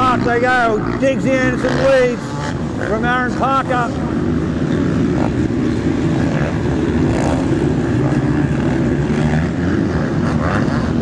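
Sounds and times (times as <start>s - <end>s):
motocross bikes racing: 0.0s - 11.0s.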